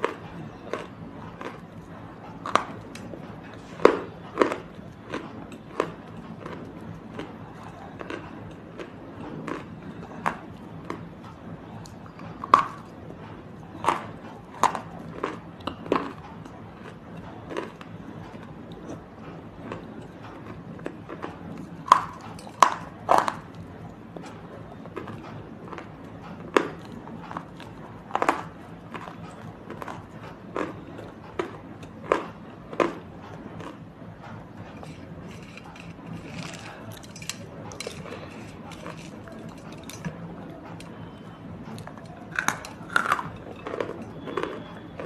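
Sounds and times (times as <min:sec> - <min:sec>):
crunchy biting and chewing: 0:00.0 - 0:45.0
steady low hum: 0:00.0 - 0:45.0.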